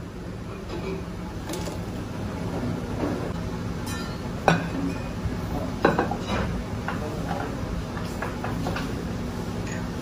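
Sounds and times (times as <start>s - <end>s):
low kitchen hum: 0.0s - 10.0s.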